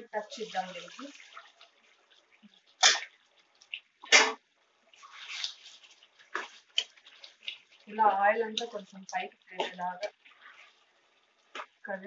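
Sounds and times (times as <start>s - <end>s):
spoon stirring and scraping in pan: 0.2s - 11.8s.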